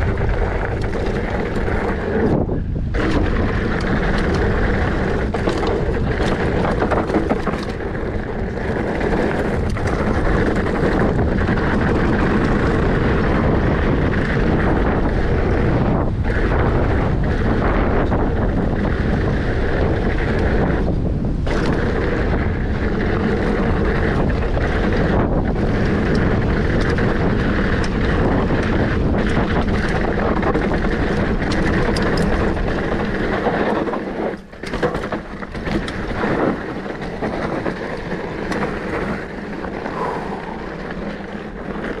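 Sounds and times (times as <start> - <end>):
bike clicks and rattles: 0.0 - 42.0
bike tyres rumbling on dirt: 0.0 - 42.0
wind rushing over microphone: 0.0 - 42.0.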